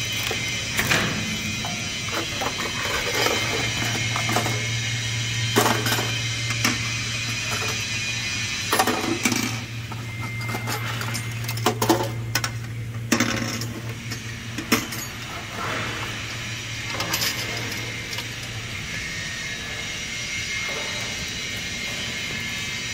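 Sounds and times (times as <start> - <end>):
low machinery hum: 0.0 - 22.9.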